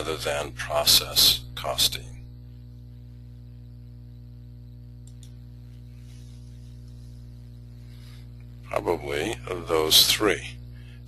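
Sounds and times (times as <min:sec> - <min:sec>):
electrical hum with faint hiss: 0:00.0 - 0:11.0.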